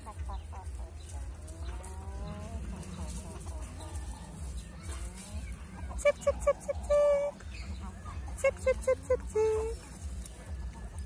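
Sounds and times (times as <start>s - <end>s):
hens clucking softly: 0.0s - 11.0s
steady low rumble: 0.0s - 11.0s.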